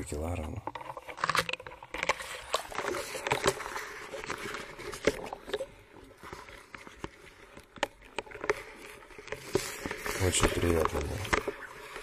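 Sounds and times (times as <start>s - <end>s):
underwater knocks and scraping: 0.0s - 12.0s.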